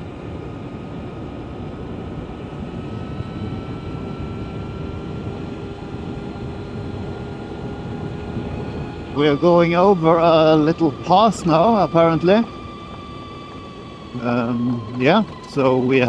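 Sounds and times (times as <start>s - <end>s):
electric motor whine: 0.0s - 16.0s
wind rushing over microphone: 0.0s - 16.0s.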